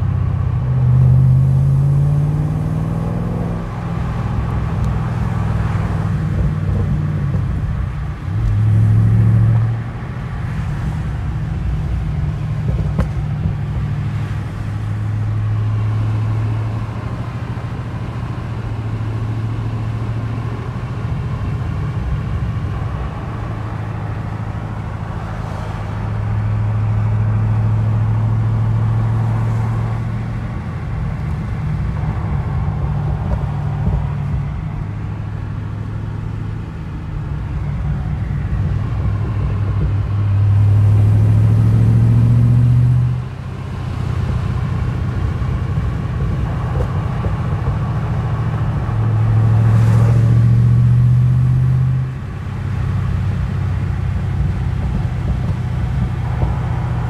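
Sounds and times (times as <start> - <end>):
car engine drone from cabin: 0.0 - 57.0.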